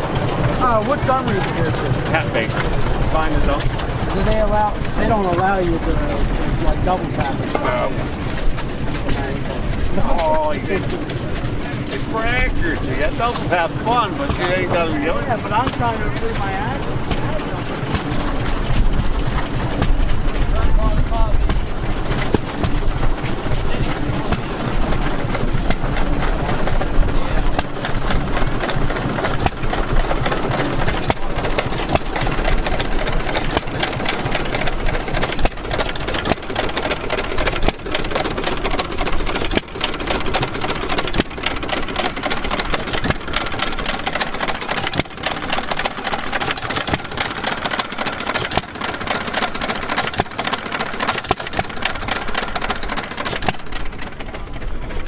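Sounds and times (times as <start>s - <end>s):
gas engines clattering: 0.0s - 55.0s.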